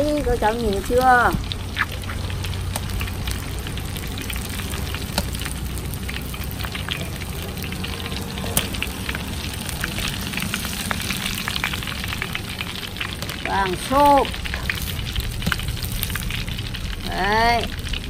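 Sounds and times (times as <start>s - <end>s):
deep-frying sizzle with crackling pops: 0.0s - 18.0s.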